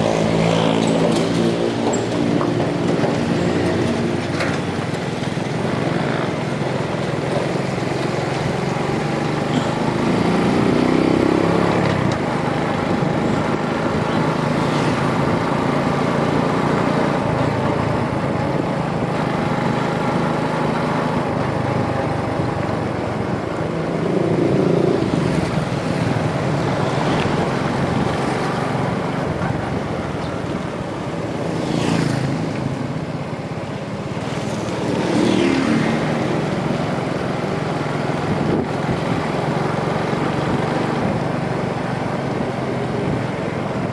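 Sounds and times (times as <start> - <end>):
motorcycle engine revving: 0.0 - 33.1, 34.0 - 43.9
wind and road noise: 0.0 - 43.9.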